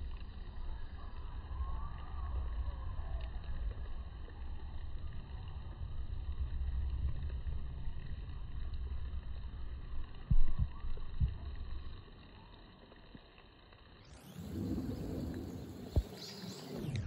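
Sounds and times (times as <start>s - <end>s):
wind rumble: 0.0s - 12.0s, 14.2s - 17.0s.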